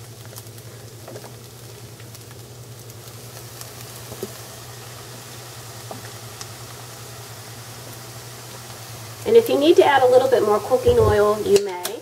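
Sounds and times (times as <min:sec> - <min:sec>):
rice sizzling in a hot pan: 0:00.0 - 0:12.0.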